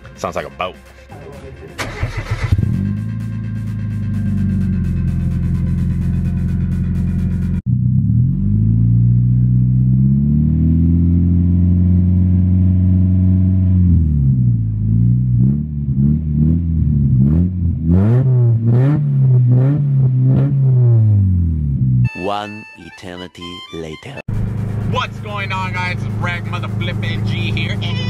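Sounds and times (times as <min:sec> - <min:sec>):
car engine revving: 0:01.7 - 0:22.0, 0:24.3 - 0:28.0.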